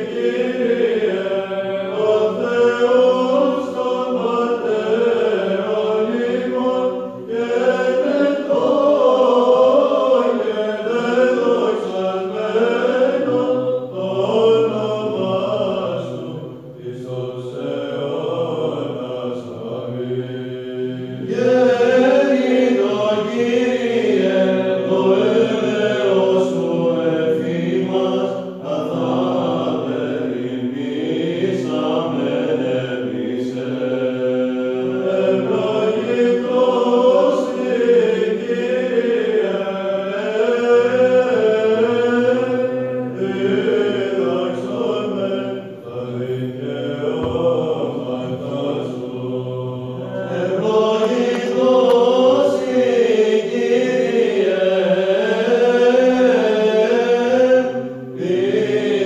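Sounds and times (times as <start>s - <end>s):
men chanting over a drone: 0.0s - 59.0s.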